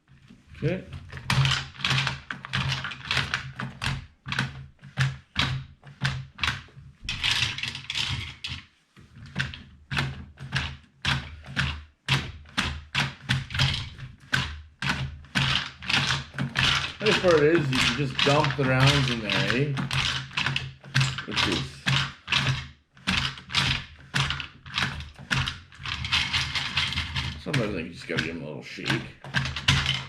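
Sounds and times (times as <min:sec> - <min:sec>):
loose rounds rattling: 0:00.6 - 0:08.6, 0:09.3 - 0:30.0.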